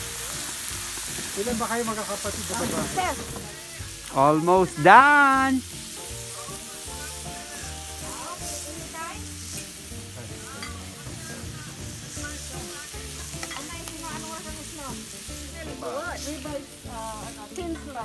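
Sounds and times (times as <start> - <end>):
meat sizzling on a griddle: 0.0 - 18.0
music with held notes: 0.0 - 18.0.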